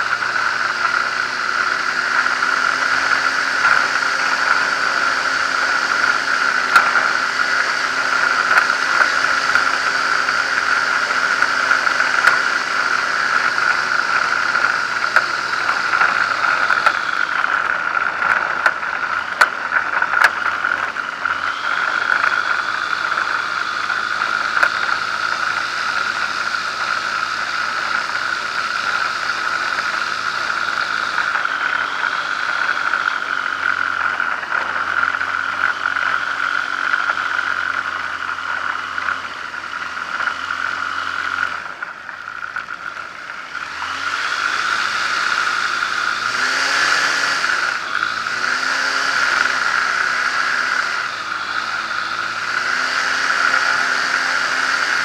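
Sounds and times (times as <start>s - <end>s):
light aircraft engine and propeller: 0.0s - 55.0s
sharp clicks and rattles: 0.0s - 55.0s.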